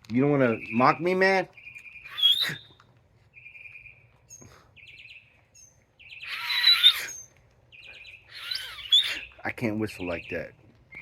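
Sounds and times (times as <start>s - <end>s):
mockingbird singing: 0.2s - 11.0s.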